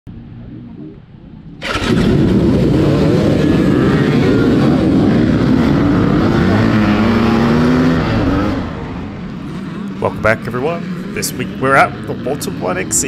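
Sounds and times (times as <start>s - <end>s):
dirt bike engines revving: 1.6s - 13.0s.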